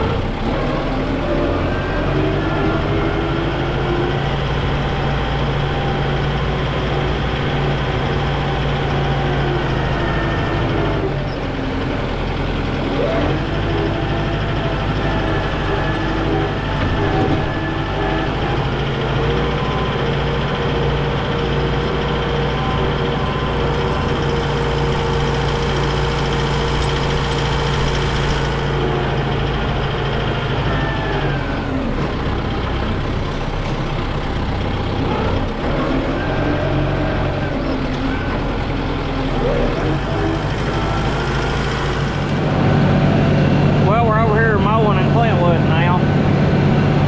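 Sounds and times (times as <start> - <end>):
diesel tractor engine running: 0.0 - 47.0.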